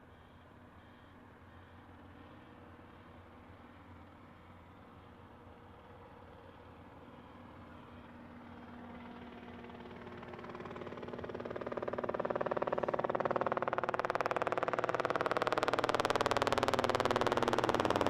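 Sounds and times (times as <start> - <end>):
aircraft engine: 0.0 - 18.0.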